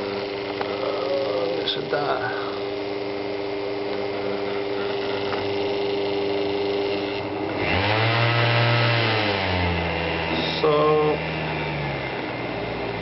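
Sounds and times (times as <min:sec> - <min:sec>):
electric pump motor humming: 0:00.0 - 0:13.0
motor spinning up: 0:00.0 - 0:13.0.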